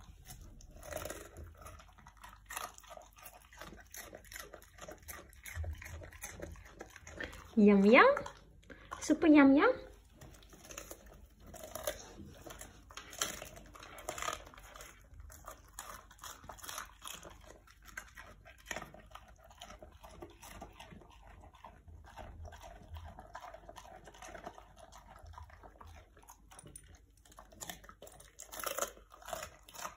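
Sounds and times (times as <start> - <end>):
dog chewing cabbage: 0.0 - 29.9.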